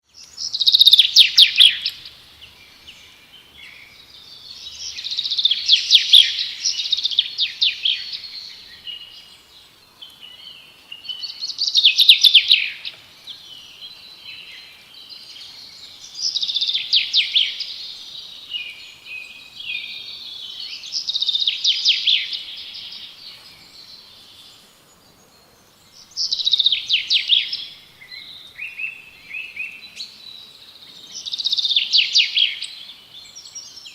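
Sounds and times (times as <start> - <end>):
soft bird chirps: 0.0 - 33.9
bird singing rapid notes: 0.1 - 9.4, 10.0 - 33.9.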